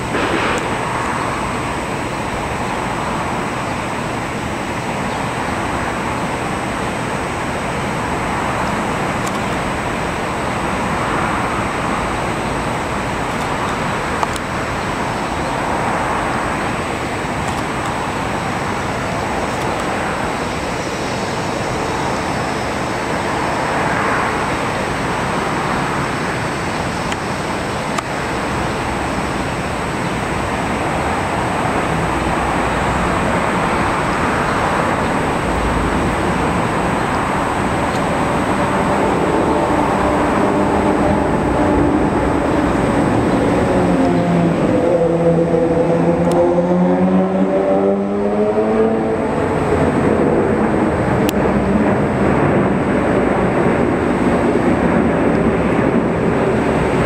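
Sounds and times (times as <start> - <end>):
jet airliner flying overhead: 0.0 - 57.0.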